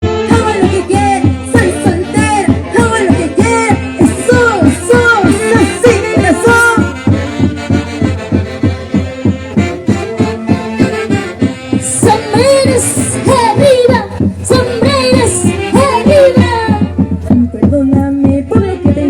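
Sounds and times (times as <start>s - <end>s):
folk orchestra music: 0.0s - 17.6s.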